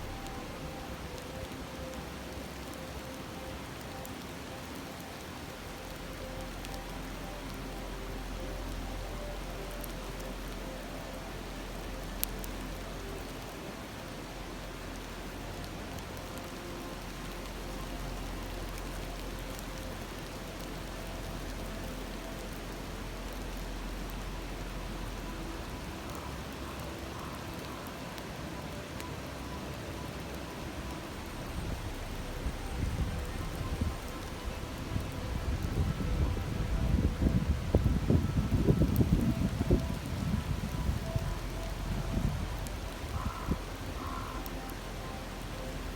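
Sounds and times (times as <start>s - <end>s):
campfire crackling: 0.0s - 45.9s
river babbling over stones: 0.0s - 45.9s.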